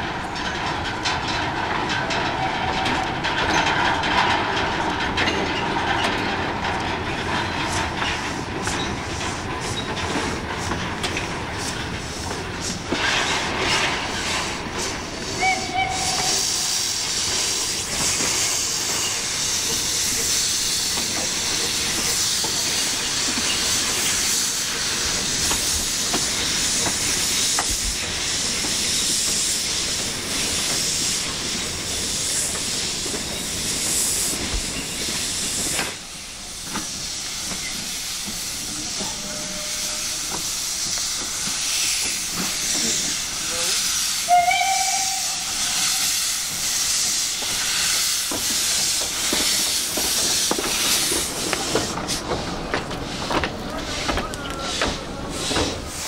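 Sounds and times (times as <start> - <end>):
steam locomotive running gear clanking: 0.0 - 56.0
steam hissing from cylinders: 6.3 - 56.0.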